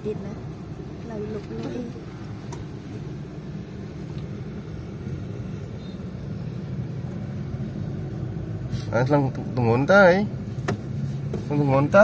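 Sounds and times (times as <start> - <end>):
car cabin engine and tyre rumble: 0.0 - 12.0.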